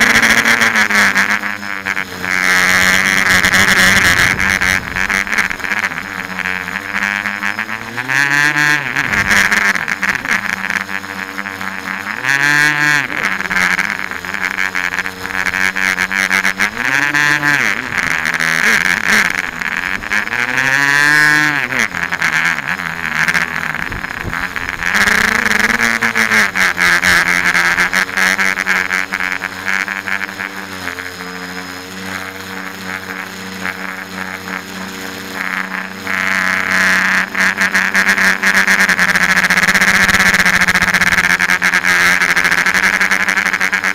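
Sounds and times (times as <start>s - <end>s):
drone motors and propellers whining: 0.0s - 43.9s.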